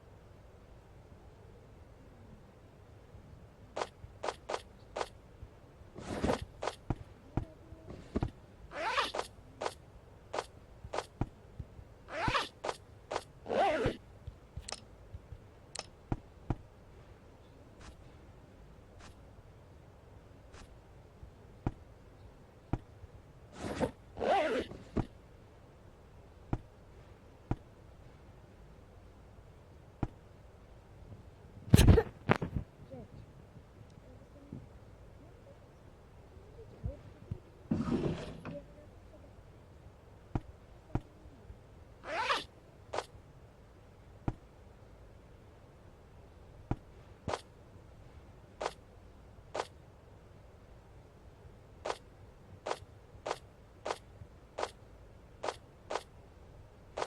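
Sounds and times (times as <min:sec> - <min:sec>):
low steady background noise: 0:00.0 - 0:57.0.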